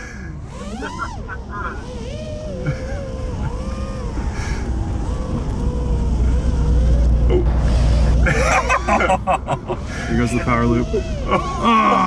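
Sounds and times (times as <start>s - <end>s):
drone motors whining: 0.0s - 12.0s
truck rumble: 0.0s - 12.0s.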